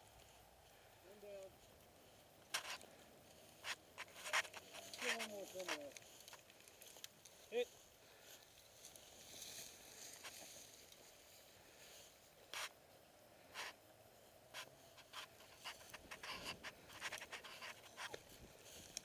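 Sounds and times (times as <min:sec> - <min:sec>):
faint clicks and rustles: 0:00.0 - 0:19.0.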